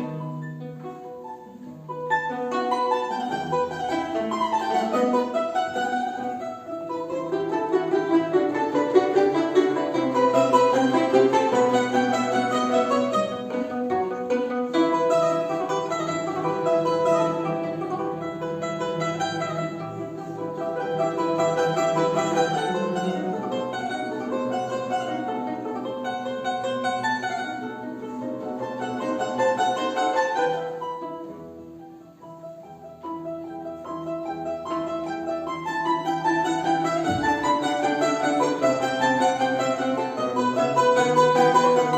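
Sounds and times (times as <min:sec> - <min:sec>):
plucked string instrumental music: 0:00.0 - 0:41.9.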